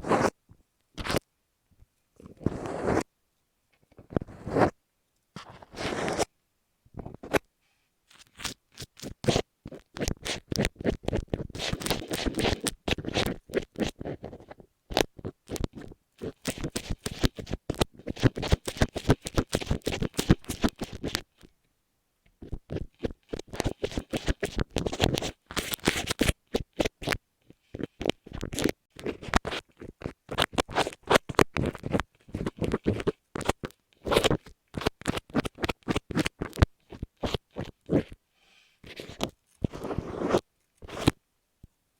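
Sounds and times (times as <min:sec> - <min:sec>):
scratching against a microphone: 0:00.0 - 0:00.4, 0:01.0 - 0:01.2, 0:02.2 - 0:03.1, 0:03.9 - 0:04.8, 0:05.4 - 0:06.3, 0:07.0 - 0:07.4, 0:08.1 - 0:21.5, 0:22.4 - 0:38.2, 0:38.8 - 0:41.2.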